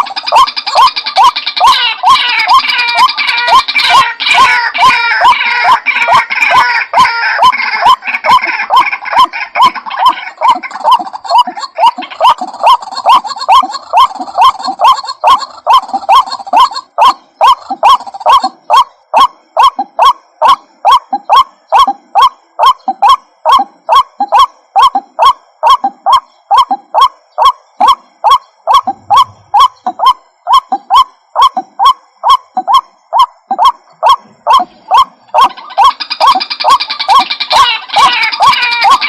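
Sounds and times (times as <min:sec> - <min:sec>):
waterhen calling: 0:00.0 - 0:39.0.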